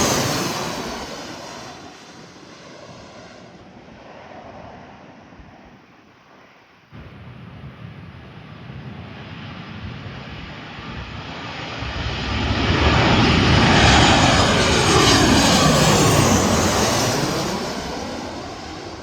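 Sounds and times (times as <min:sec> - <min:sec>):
jet airliner passing: 0:00.0 - 0:05.8, 0:07.0 - 0:19.0.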